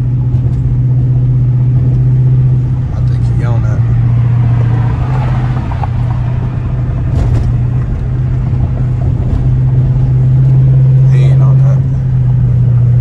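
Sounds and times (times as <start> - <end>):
car exhaust droning: 0.0 - 13.0.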